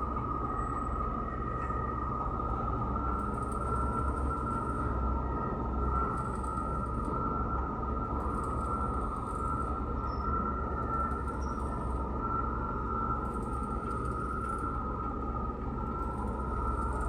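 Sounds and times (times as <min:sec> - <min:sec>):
constant high whine: 0:00.0 - 0:17.0.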